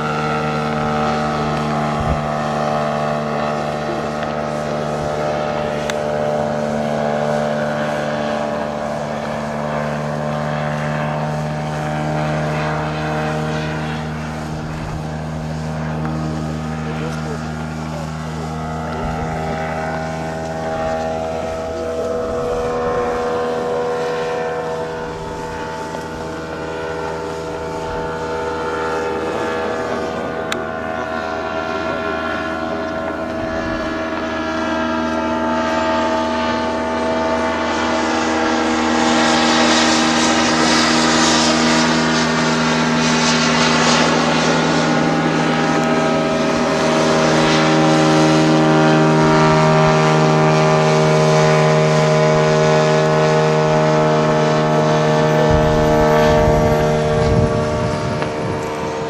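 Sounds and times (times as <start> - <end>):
model airplane motor droning: 0.0 - 59.0.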